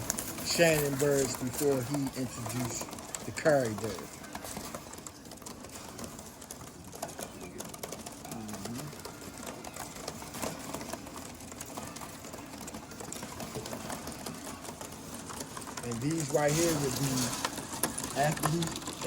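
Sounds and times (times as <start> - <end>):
rapid clicking and scratching: 0.0 - 19.0.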